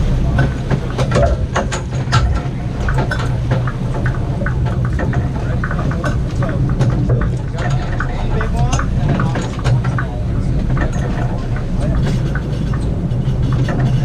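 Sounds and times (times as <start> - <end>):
boat engine humming: 0.0 - 14.0
clicks and knocks: 0.0 - 14.0
people talking: 0.0 - 14.0.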